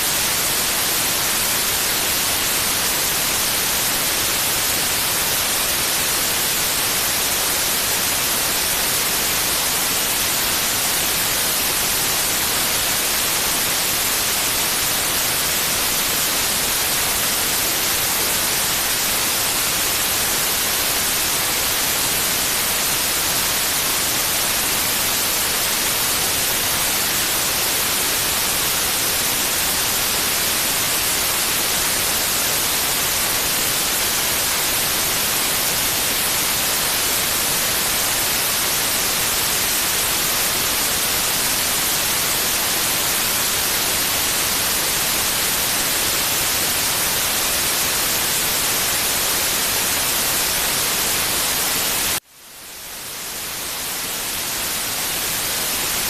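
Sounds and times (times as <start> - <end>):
white-noise hiss: 0.0 - 56.0.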